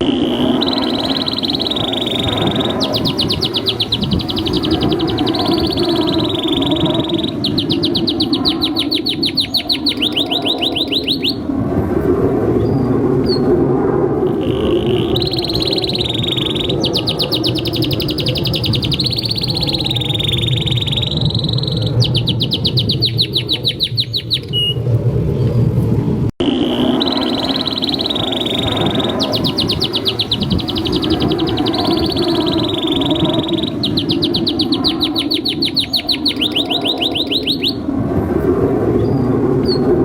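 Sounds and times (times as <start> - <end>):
canary singing trills: 0.0 - 11.5, 14.3 - 24.8, 26.5 - 37.9
steady low rumble: 0.0 - 40.0.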